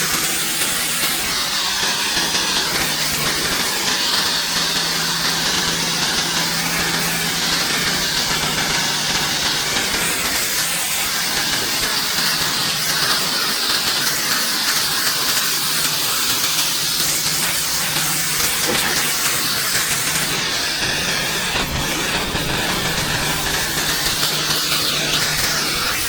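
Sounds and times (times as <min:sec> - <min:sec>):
pressure washer spraying water: 0:00.0 - 0:26.0.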